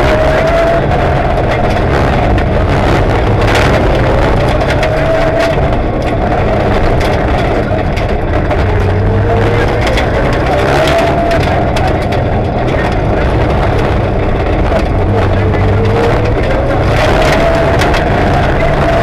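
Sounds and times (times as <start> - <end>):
gravel rattling against car: 0.0 - 19.0
rally car engine revving: 0.0 - 19.0.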